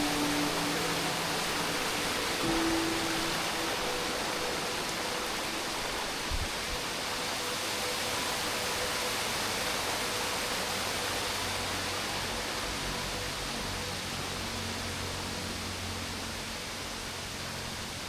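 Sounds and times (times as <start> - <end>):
waterfall roar: 0.0 - 18.0.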